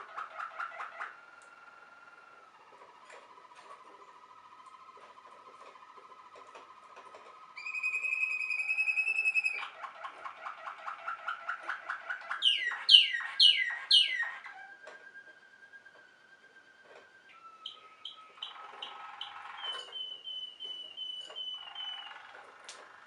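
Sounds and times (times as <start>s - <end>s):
canary singing: 0.0s - 5.7s, 7.6s - 23.0s.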